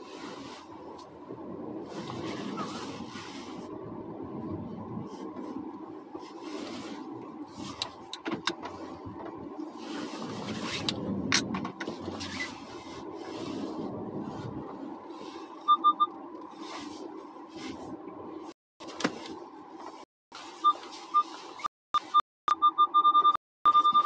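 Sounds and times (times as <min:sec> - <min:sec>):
car engine hum inside: 0:00.0 - 0:24.0.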